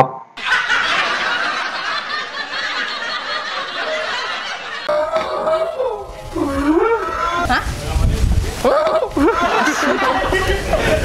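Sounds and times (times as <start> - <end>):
crowd laughing: 0.4 - 7.7, 8.7 - 11.0.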